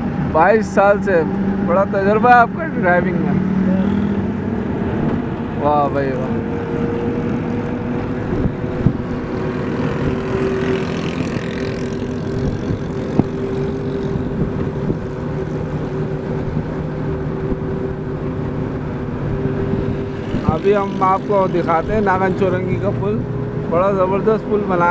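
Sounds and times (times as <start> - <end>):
car engine running: 0.0 - 24.9
road noise: 0.0 - 24.9.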